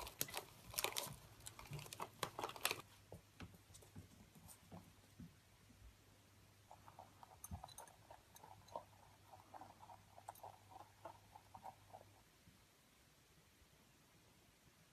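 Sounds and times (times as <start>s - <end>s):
rabbits munching food: 0.0s - 12.7s.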